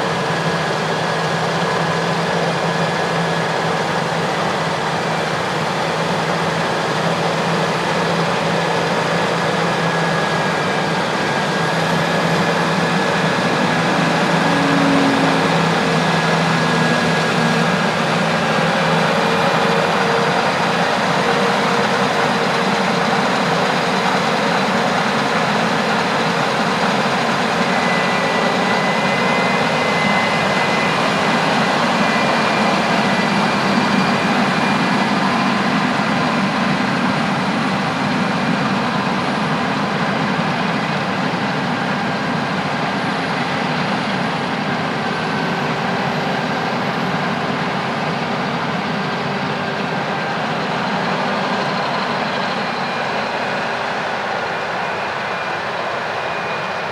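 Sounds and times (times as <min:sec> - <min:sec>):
diesel engine drone: 0:00.0 - 0:56.9.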